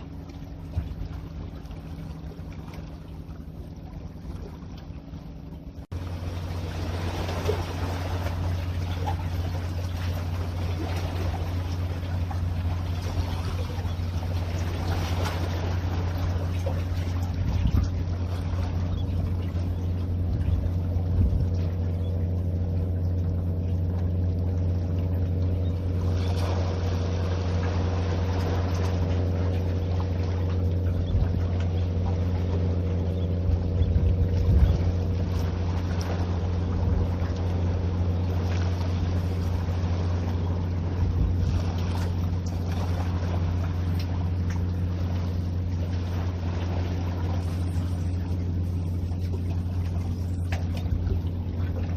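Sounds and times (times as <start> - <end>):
low engine drone: 0.0 - 51.9.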